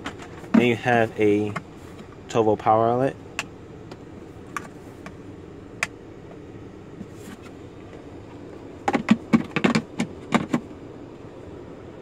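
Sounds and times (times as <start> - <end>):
low cabin hum: 0.0 - 12.0.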